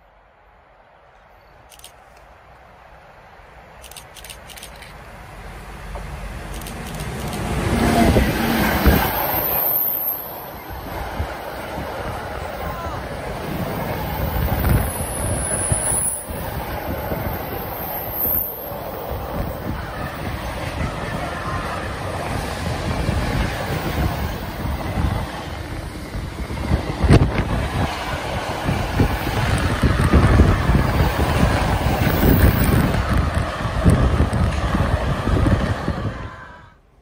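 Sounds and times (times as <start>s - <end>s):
train wheels on rails: 1.0s - 36.7s.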